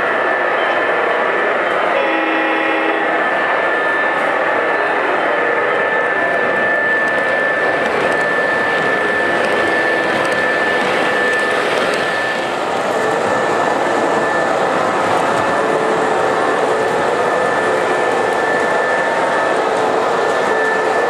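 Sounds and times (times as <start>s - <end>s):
high whine: 0.0s - 21.0s
model train rolling rumble: 2.1s - 21.0s.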